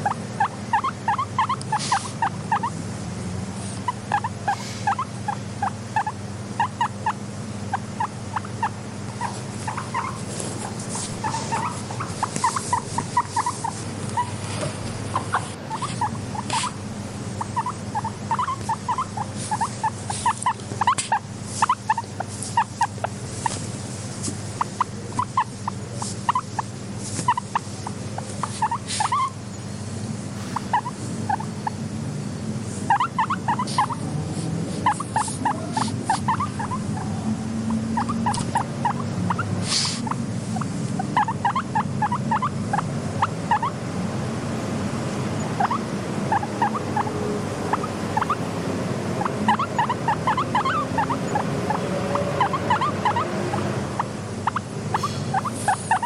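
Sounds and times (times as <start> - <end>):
guinea pig squeaking: 0.0 - 2.8, 3.5 - 29.7, 30.4 - 31.8, 32.7 - 43.8, 45.4 - 56.0.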